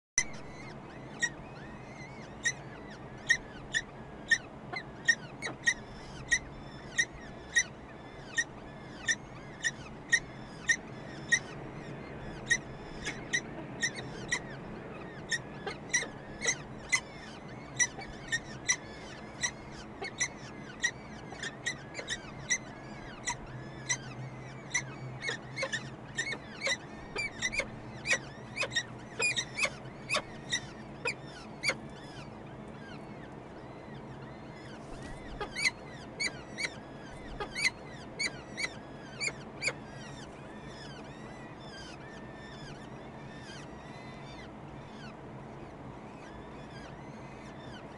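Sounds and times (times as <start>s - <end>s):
chicks begging peeps: 0.2s - 47.9s
low steady hum: 0.2s - 47.9s.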